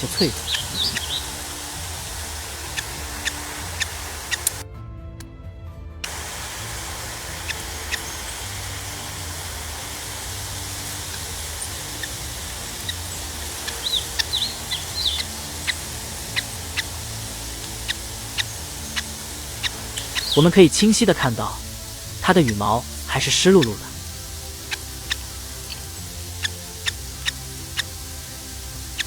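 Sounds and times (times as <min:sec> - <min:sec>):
bird chick peeping: 0:00.0 - 0:04.6, 0:06.1 - 0:29.0
faint clicks: 0:00.0 - 0:04.6, 0:06.0 - 0:20.4, 0:22.8 - 0:29.0
steady hiss and low hum: 0:00.0 - 0:04.6, 0:06.1 - 0:29.0.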